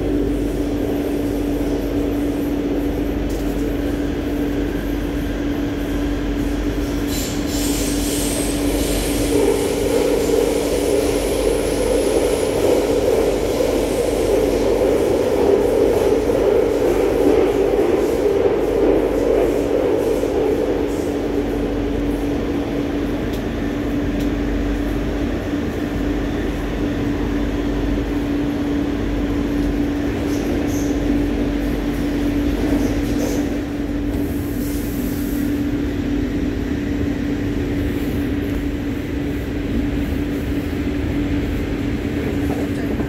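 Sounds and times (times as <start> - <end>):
train rumbling in tunnel: 0.0 - 43.0.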